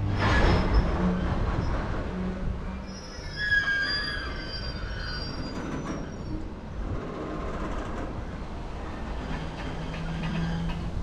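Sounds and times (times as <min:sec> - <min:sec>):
low rumble of wagons: 0:00.0 - 0:11.0
train wheels squealing: 0:00.1 - 0:01.9, 0:02.6 - 0:08.0, 0:08.9 - 0:11.0.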